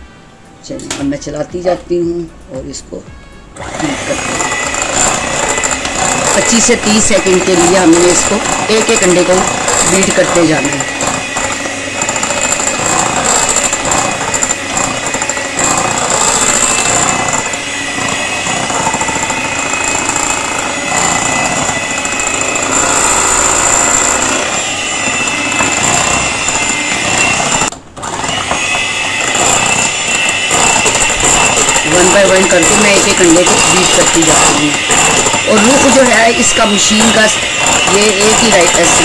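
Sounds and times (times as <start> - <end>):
electric hand mixer whirring: 3.6 - 39.0.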